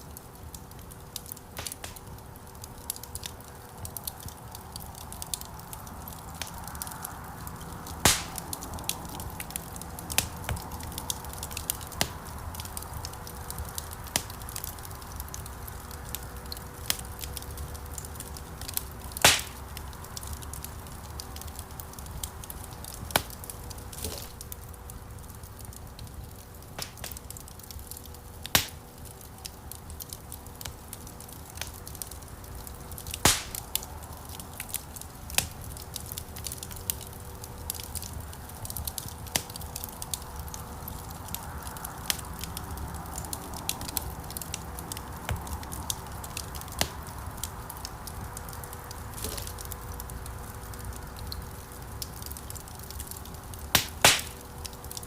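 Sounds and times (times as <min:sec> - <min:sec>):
faint steady hum: 0:00.0 - 0:55.0
wood fire crackling: 0:00.0 - 0:55.0
fire sharp pops: 0:00.1 - 0:55.0.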